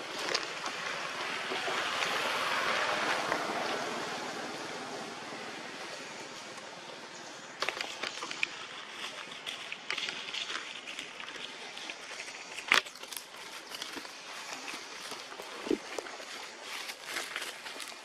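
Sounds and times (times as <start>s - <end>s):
dry leaves crackling and rustling: 0.0s - 4.0s, 7.5s - 18.0s.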